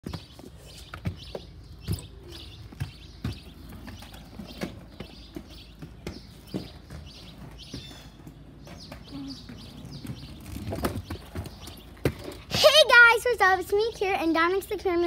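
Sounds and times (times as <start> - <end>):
inline skates clacking on concrete: 0.0 - 13.0.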